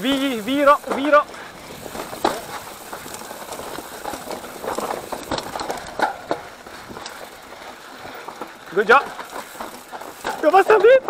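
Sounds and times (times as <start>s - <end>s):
bike rattling over bumps: 0.0s - 11.0s
bike tyres rushing on dirt trail: 0.0s - 11.0s.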